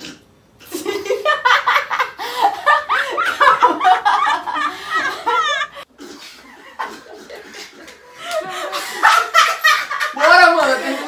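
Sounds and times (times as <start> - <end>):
woman and man laughing: 0.7 - 11.0.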